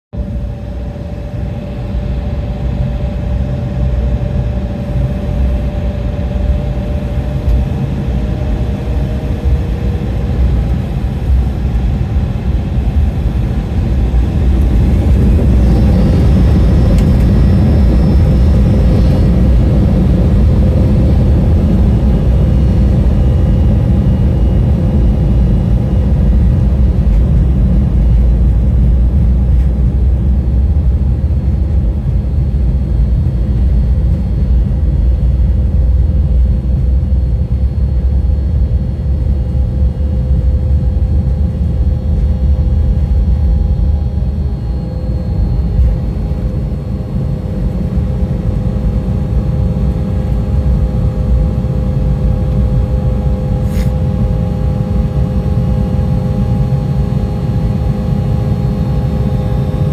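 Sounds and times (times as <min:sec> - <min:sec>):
jet engine rumble in cabin: 0:00.2 - 0:59.9
thin high engine whine: 0:00.2 - 0:59.9.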